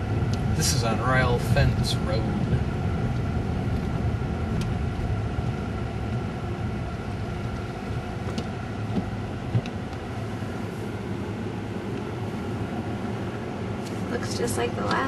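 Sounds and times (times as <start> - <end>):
car engine rumble inside cabin: 0.0 - 15.0.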